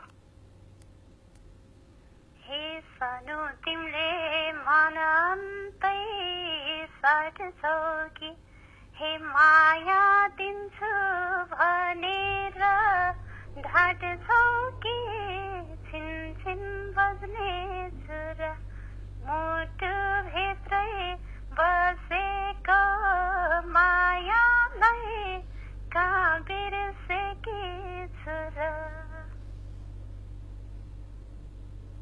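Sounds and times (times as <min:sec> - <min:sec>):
low hum: 0:00.0 - 0:32.0
woman singing unaccompanied: 0:02.4 - 0:29.4.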